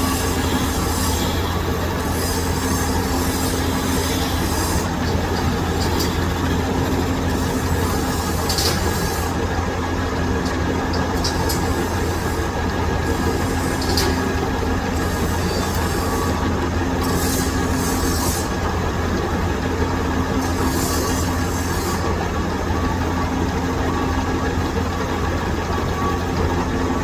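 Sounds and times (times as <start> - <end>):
lathe machine hum: 0.0 - 27.0.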